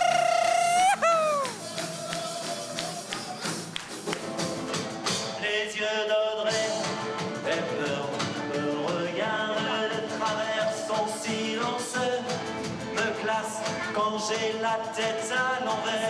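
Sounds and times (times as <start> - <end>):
song with singing over beat: 0.0 - 3.9, 5.1 - 16.0
band with acoustic guitars and drums: 0.0 - 16.0.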